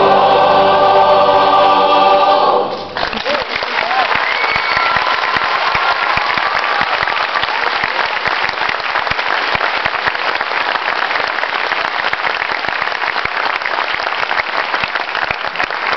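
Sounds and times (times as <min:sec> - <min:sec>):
audience applauding: 0:02.9 - 0:15.9.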